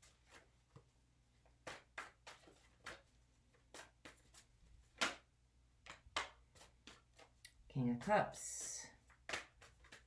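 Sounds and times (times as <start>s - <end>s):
cards shuffling: 0.0s - 7.5s, 8.4s - 10.0s.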